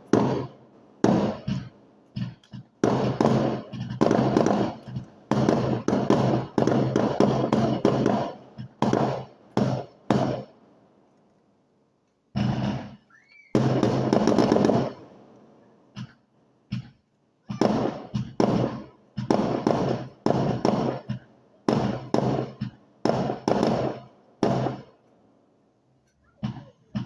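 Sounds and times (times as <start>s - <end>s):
fireworks bangs: 0.0s - 10.7s, 12.3s - 25.1s, 26.2s - 27.0s
fireworks crackling: 0.0s - 11.4s, 12.3s - 27.0s.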